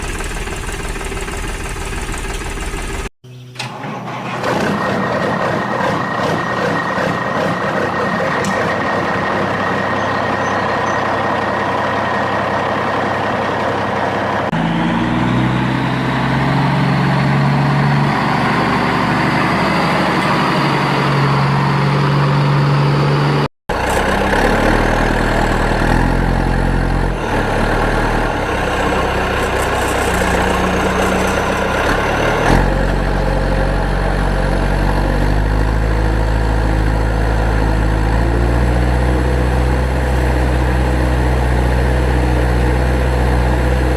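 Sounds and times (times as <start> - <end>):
heavy truck engine running: 0.0 - 43.9.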